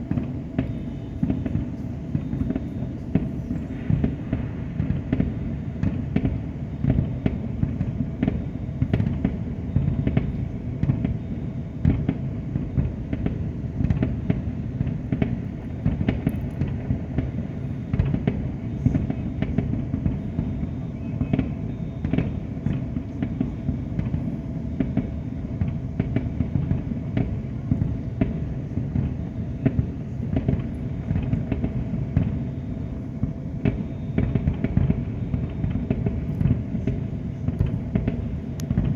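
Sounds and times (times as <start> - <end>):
fireworks booming and cracking: 0.0 - 38.9.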